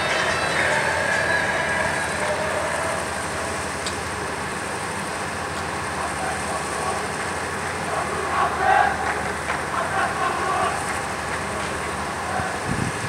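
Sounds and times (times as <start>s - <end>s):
outdoor hiss and rumble: 0.0s - 13.0s.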